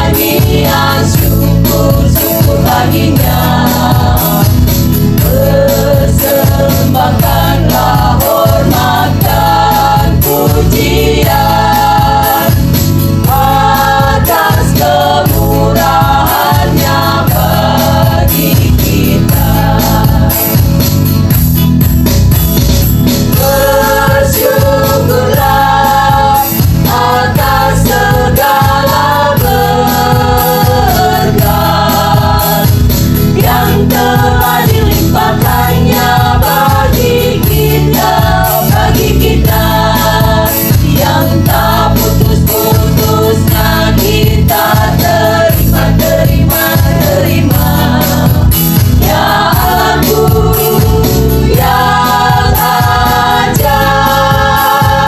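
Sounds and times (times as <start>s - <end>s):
women's group singing: 0.0s - 21.1s, 23.3s - 55.0s
steady bass beat: 0.0s - 55.0s.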